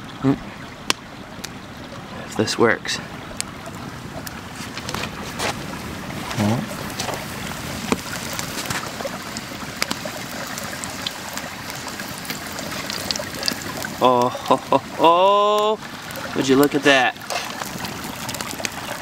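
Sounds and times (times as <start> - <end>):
food deep-frying in hot oil: 3.4 - 19.0.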